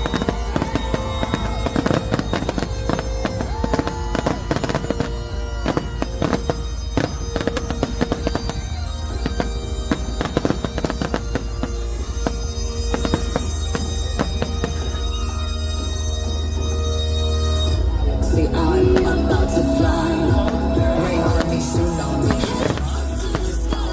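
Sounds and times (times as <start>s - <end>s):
fireworks bangs and crackling: 0.0s - 17.0s, 17.6s - 23.9s
music playing: 0.0s - 23.9s.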